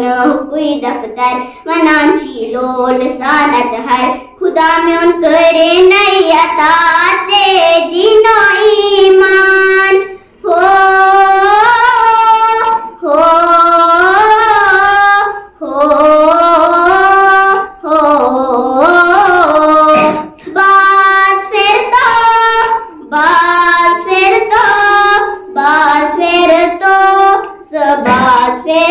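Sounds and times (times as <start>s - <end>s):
girl singing unaccompanied: 0.0s - 28.9s.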